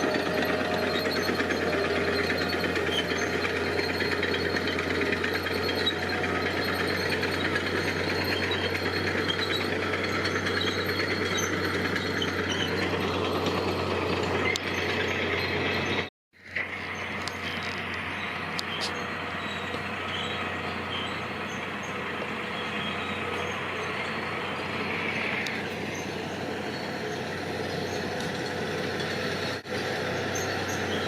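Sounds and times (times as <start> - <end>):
diesel engine rattling: 0.0 - 31.0.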